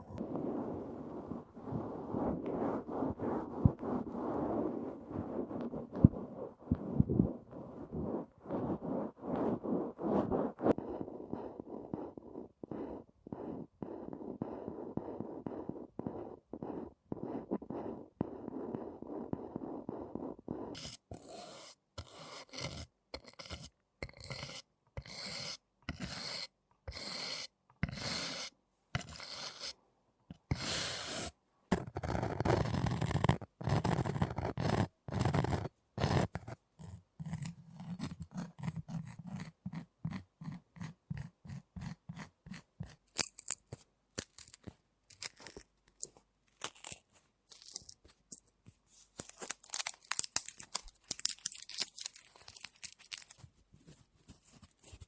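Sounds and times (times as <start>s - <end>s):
close-up scraping and rubbing: 0.0s - 55.0s.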